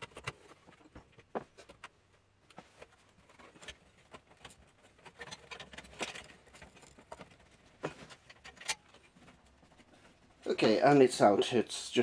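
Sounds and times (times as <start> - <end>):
faint clicks and scrapes: 0.0 - 10.5.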